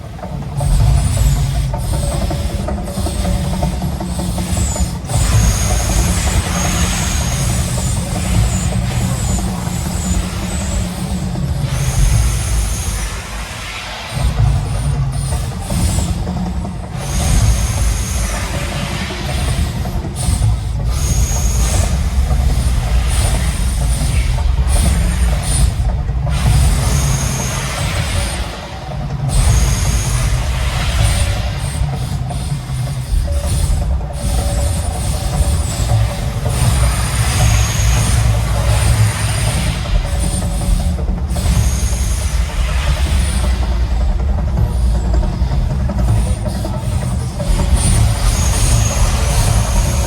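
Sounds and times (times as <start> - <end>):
deep rumble: 0.0 - 50.0
roar of burning gas jets: 0.0 - 50.0.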